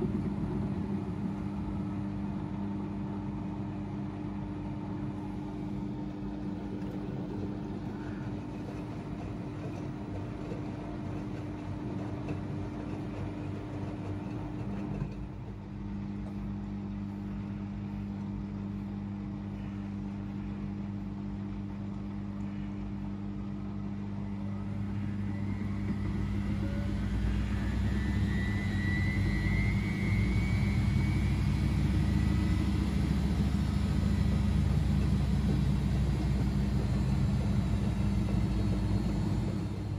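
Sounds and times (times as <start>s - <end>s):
washing machine drum speeding up: 0.0s - 16.8s, 24.4s - 39.9s
washing machine motor hum: 0.0s - 39.9s.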